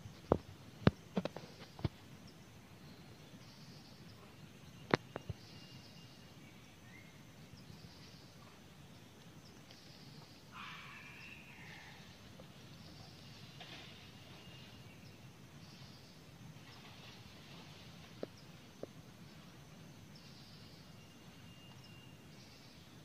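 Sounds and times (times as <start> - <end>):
faint high calls of birds: 0.3 - 23.0.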